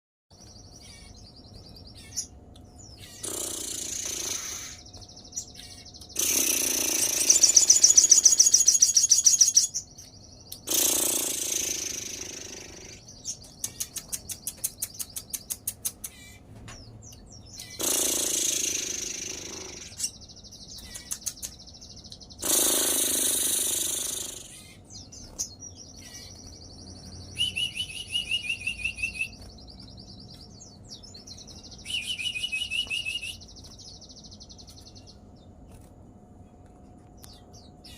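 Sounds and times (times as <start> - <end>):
sunbird twittering and trilling: 0.3 - 37.9
harsh rasping bird calls: 0.5 - 16.5, 17.1 - 35.2.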